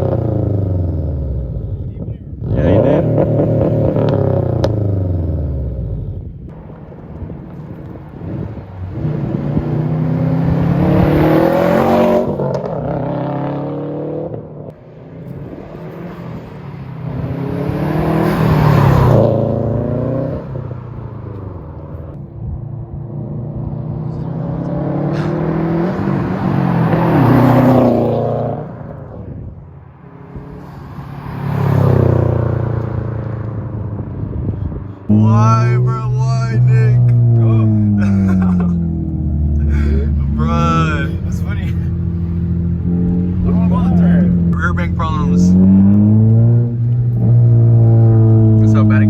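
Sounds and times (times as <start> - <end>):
car engine accelerating hard: 0.0 - 6.2, 7.5 - 22.2, 23.0 - 29.5, 30.2 - 49.0.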